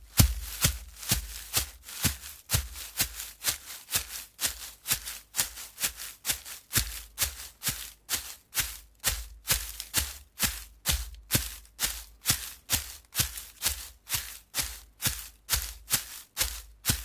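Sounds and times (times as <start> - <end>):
running footsteps on gravel: 0.0 - 17.0.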